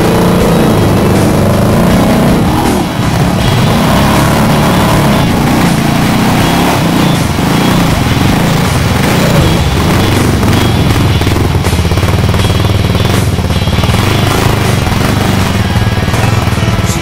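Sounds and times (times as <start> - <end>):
atv engine running: 0.0 - 17.0
water churning and splashing: 0.0 - 17.0.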